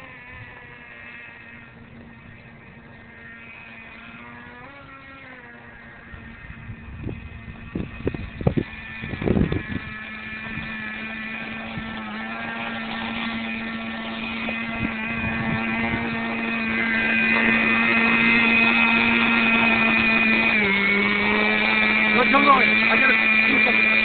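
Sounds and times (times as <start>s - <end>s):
rc truck nitro engine running: 0.0s - 24.0s.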